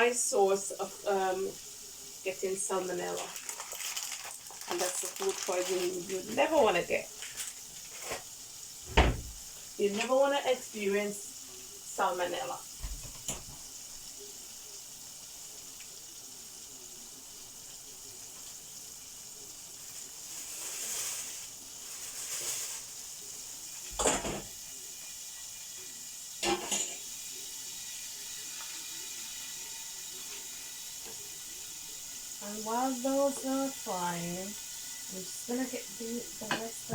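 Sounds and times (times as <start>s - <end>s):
chicken sizzling in hot oil: 0.0s - 36.9s.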